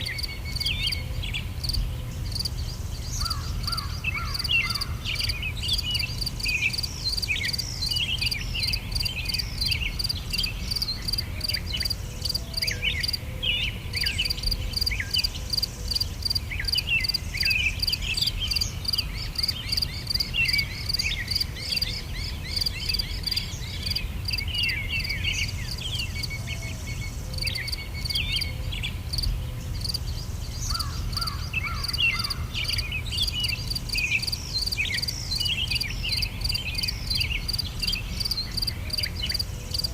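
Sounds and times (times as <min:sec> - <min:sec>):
insects chirping: 0:00.0 - 0:13.2, 0:13.9 - 0:39.9
birds chirping and whistling: 0:00.0 - 0:39.9.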